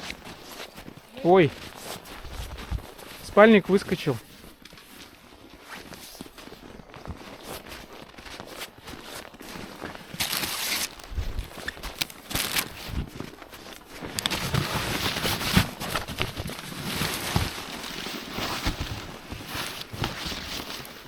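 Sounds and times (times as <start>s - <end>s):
camping gear rustling in snow: 0.0s - 21.0s.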